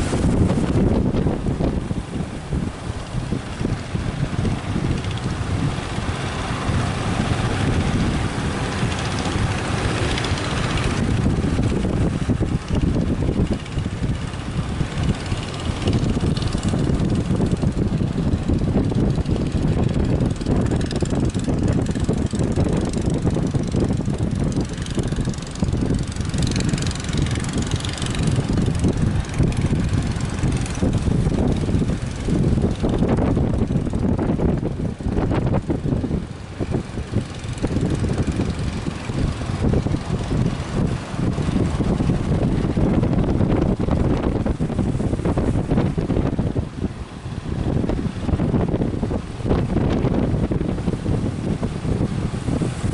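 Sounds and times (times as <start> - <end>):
motor boats running: 0.0 - 52.9
wind buffeting microphone: 0.0 - 52.9.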